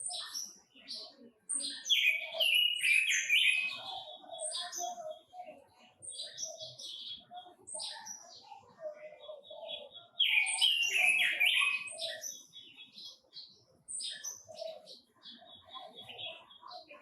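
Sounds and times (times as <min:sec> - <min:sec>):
bird singing chirps and warbles: 0:00.0 - 0:17.0.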